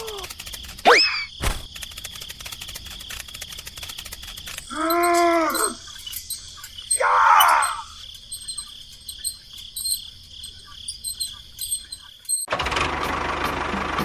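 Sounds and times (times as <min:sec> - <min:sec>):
crickets and insects chirping: 0:00.0 - 0:12.5.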